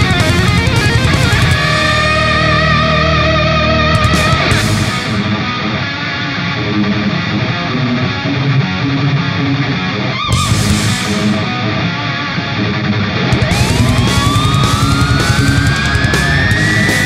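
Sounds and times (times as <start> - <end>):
guitar rock music: 0.0 - 17.0.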